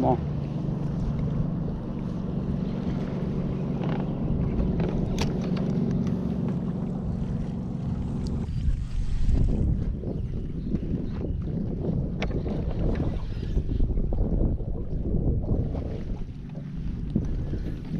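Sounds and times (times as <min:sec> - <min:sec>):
boat motor humming: 0:00.0 - 0:17.9
low rumble of wind and water: 0:00.0 - 0:17.9.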